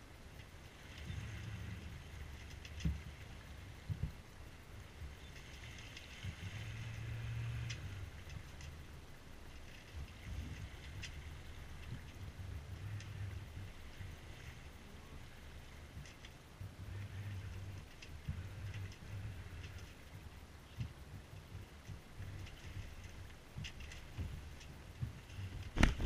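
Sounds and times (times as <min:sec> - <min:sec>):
water rushing along hull: 0:00.0 - 0:26.0
wind buffeting microphone: 0:00.8 - 0:26.0.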